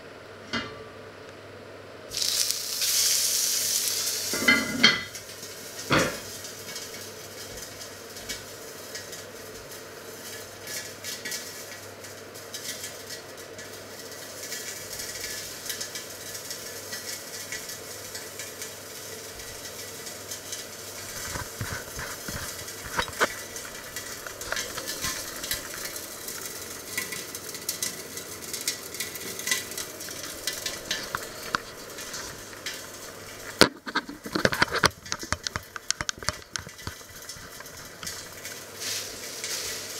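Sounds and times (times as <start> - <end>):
chicken sizzling in oil: 2.1 - 39.9.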